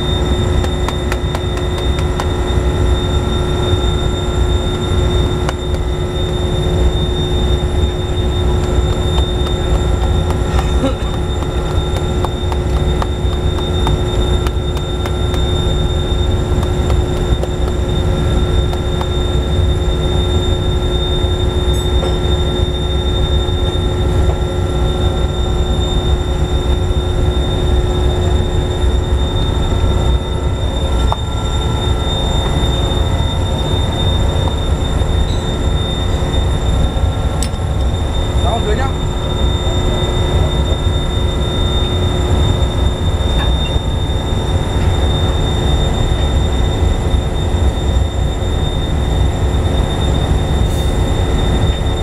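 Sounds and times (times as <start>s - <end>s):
industrial machinery drone: 0.0s - 52.0s.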